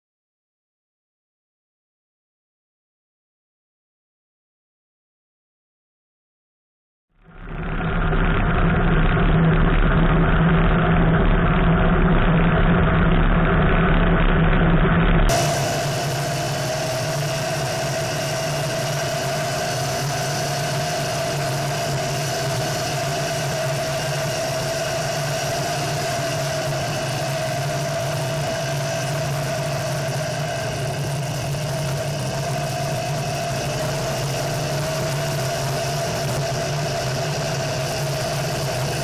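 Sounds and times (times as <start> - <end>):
buggy engine droning: 7.2 - 39.0.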